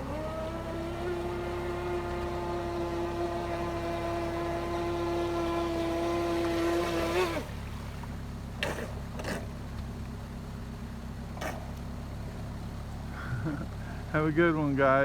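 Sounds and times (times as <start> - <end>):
boat motor whining: 0.0 - 15.0.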